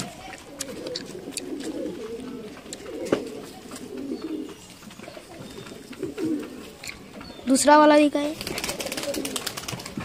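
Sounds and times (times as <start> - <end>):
pigeons cooing: 0.0 - 7.7, 8.3 - 10.0.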